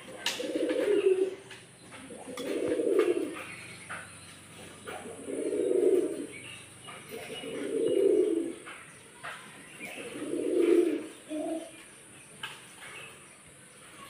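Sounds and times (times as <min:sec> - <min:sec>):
bird cooing: 0:00.0 - 0:11.9.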